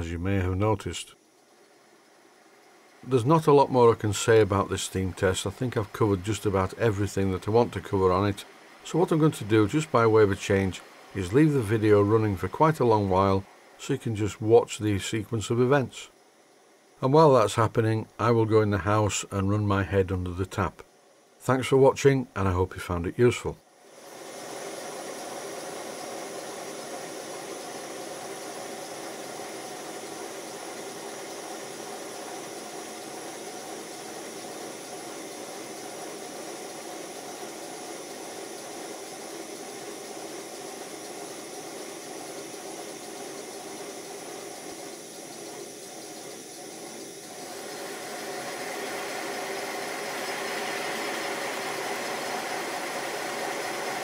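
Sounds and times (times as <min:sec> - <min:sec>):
model steam locomotive running: 0:00.0 - 0:16.2, 0:21.5 - 0:54.0.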